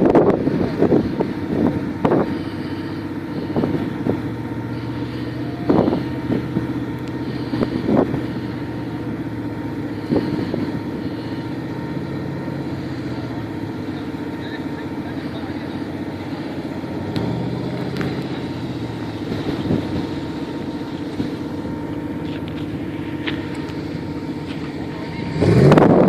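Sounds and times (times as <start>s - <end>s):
off-road vehicle engine running: 0.0s - 26.0s.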